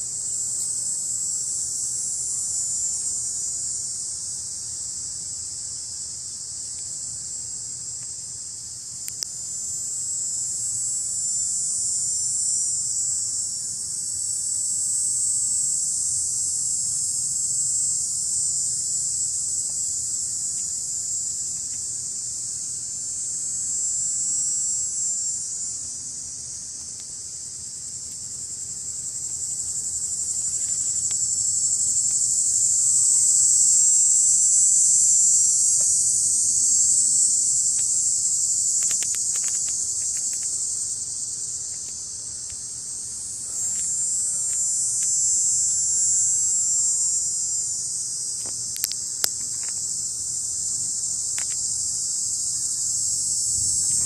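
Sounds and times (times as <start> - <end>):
insects singing: 7.9 - 54.0.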